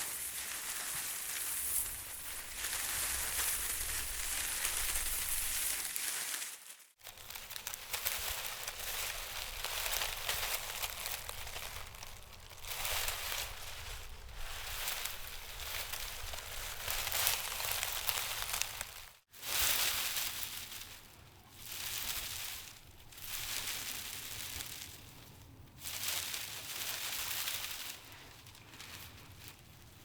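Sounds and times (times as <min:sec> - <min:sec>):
wind rustling leaves: 0:00.0 - 0:30.0.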